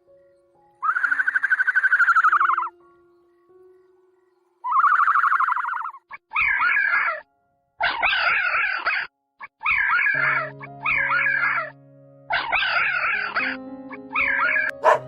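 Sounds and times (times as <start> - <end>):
harsh rasping animal calls: 0.8 - 2.7, 4.6 - 15.0
rapidly pulsed animal call: 0.8 - 2.8, 4.6 - 15.0.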